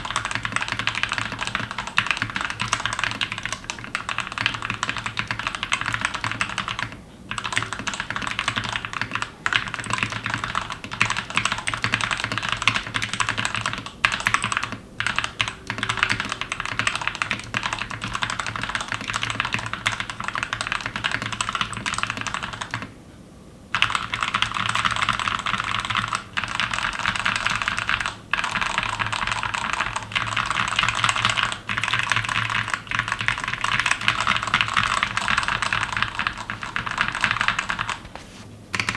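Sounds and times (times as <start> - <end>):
fast mechanical keyboard typing: 0.0 - 22.9, 23.8 - 38.1.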